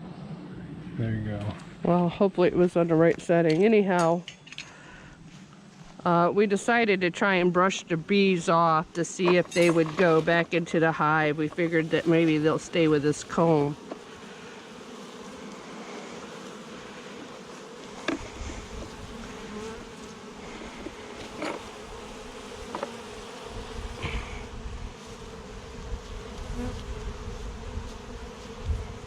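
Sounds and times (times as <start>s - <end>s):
bees buzzing: 1.8s - 29.0s.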